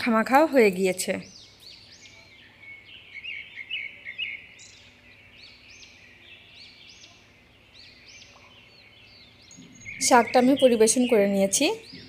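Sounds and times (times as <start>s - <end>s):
birds chirping: 0.0s - 12.0s
whistled bird notes: 1.3s - 12.0s.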